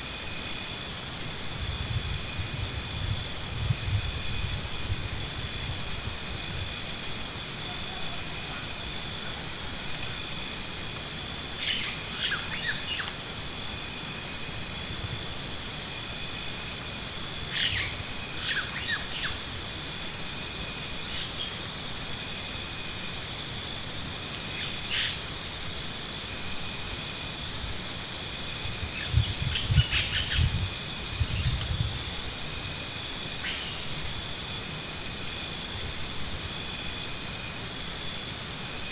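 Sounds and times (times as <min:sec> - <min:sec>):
pulsing insect-like trill: 0:00.0 - 0:38.9.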